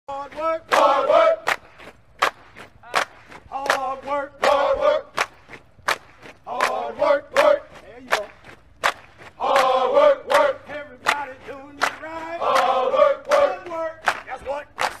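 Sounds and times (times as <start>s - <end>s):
voices chanting in rhythm: 0.1s - 1.8s, 2.8s - 5.6s, 6.2s - 15.0s.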